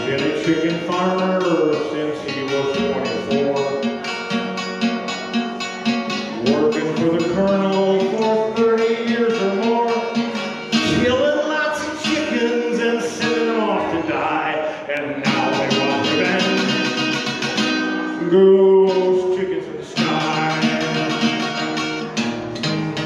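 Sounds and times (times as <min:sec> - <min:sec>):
man singing: 0:00.0 - 0:22.2
acoustic guitar strumming: 0:00.0 - 0:23.0.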